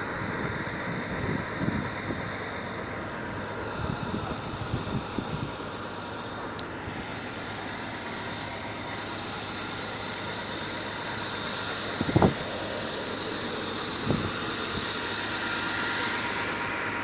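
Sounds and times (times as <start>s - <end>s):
drilling rig machinery running: 0.0s - 17.0s.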